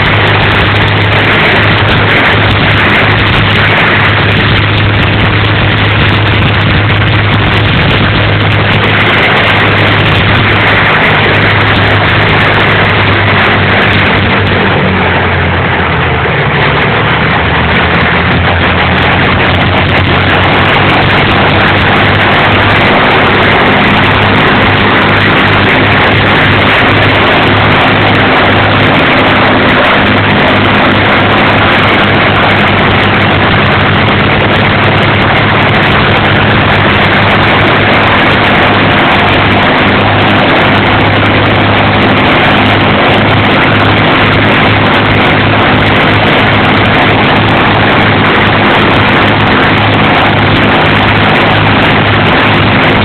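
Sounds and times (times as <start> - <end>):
propeller aircraft engines droning: 0.0 - 53.0.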